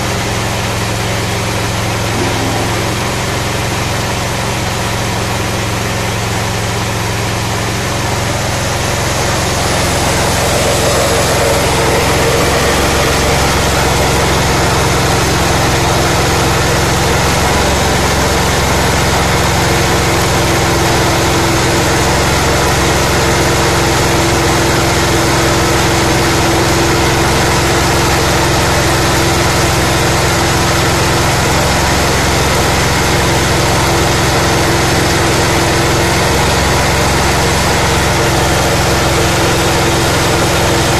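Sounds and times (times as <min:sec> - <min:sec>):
huller milling rice: 0:00.0 - 0:40.9
small engine running: 0:02.0 - 0:04.4, 0:06.6 - 0:40.9.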